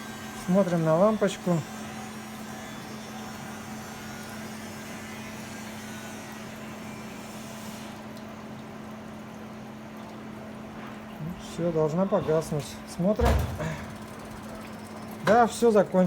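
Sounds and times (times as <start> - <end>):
dishwasher machine hum: 0.0 - 16.0.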